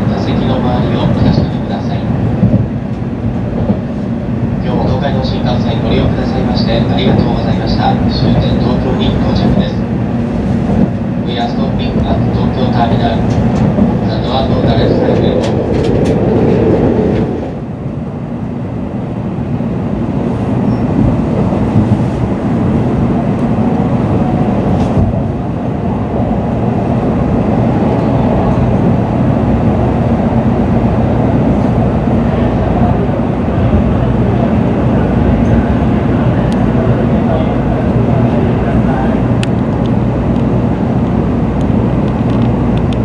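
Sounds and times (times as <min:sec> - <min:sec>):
train cabin rumble and hum: 0:00.0 - 0:43.0.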